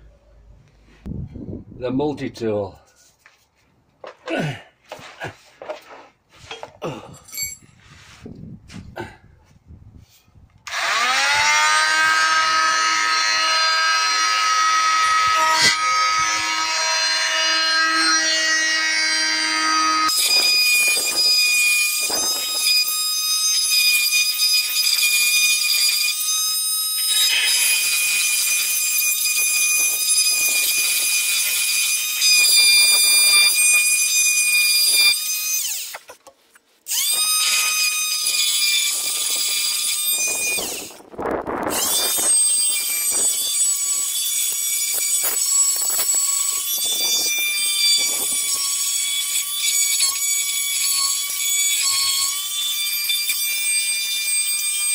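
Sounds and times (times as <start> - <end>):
rotary tool grinding metal: 5.0 - 8.2, 10.7 - 54.9.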